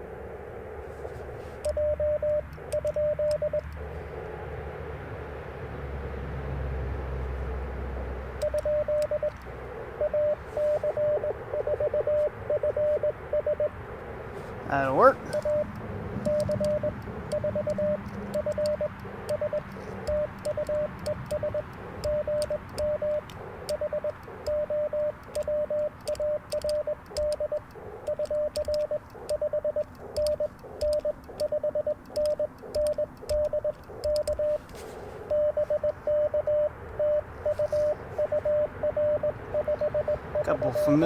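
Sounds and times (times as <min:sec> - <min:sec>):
radio band hiss: 0:00.0 - 0:06.2, 0:07.0 - 0:41.0
morse code tone: 0:00.9 - 0:04.5, 0:07.5 - 0:41.0
faint clicks: 0:01.1 - 0:04.4, 0:07.3 - 0:13.1, 0:15.3 - 0:40.1.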